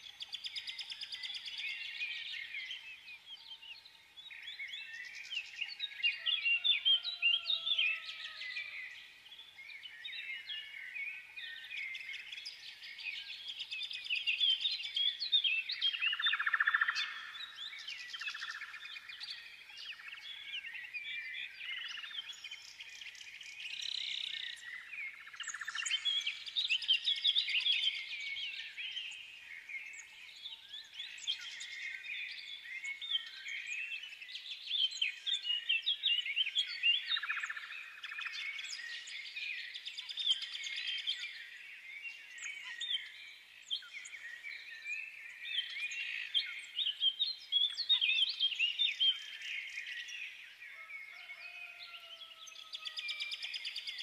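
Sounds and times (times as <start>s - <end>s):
songbirds chirping and twittering: 0.0s - 54.0s.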